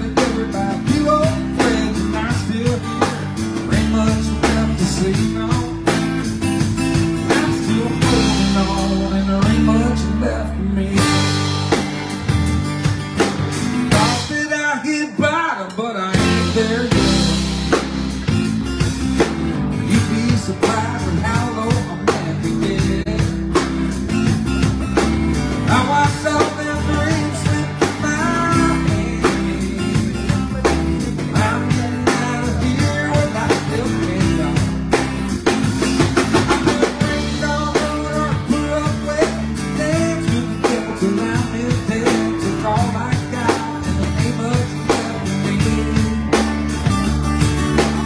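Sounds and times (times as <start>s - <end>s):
electric bass: 0.0s - 15.4s, 16.1s - 48.0s
acoustic guitar: 0.0s - 48.0s
drum kit: 0.0s - 48.0s.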